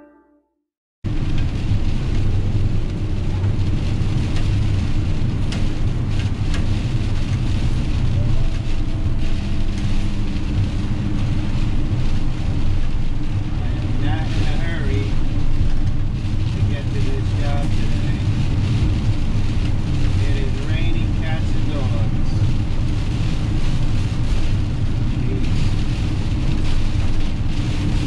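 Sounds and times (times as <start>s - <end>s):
van engine and road noise: 1.1s - 28.0s.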